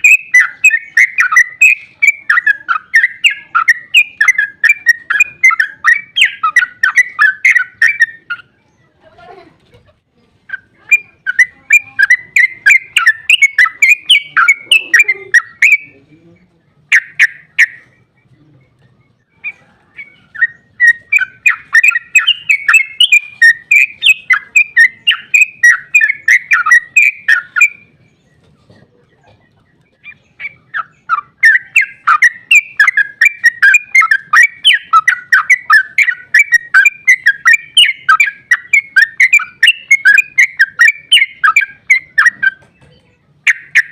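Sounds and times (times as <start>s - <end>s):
bird singing bubbling song: 0.0s - 9.0s, 10.5s - 43.9s.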